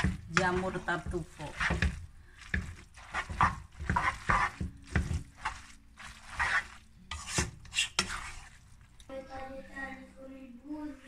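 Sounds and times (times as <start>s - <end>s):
pasta squelching in sauce: 0.0s - 9.1s.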